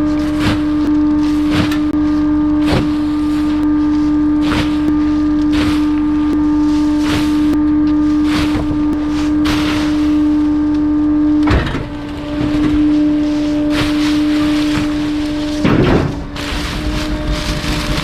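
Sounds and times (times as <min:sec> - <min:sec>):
compactor high-pitched hum: 0:00.0 - 0:18.0
material cracking and creaking: 0:00.0 - 0:18.0.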